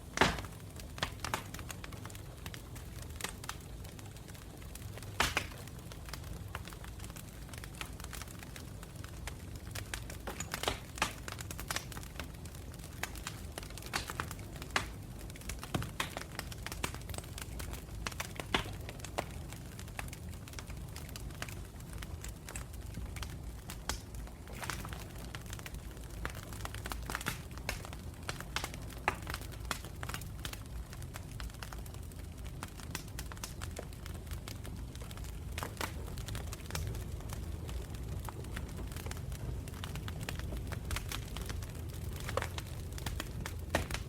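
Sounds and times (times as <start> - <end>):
burning wood crackling and popping: 0.0 - 44.0
low rumble of flames: 0.0 - 44.0.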